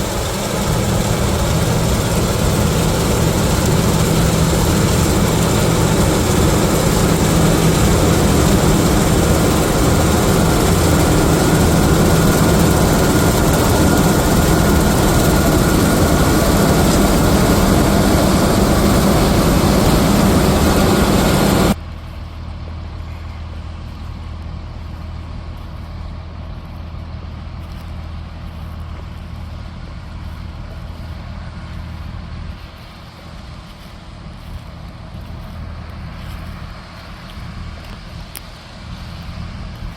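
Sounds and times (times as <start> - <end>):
faint steady machine whine: 0.0 - 39.9
heavy machinery running: 0.0 - 39.9
low engine hum: 0.0 - 39.9.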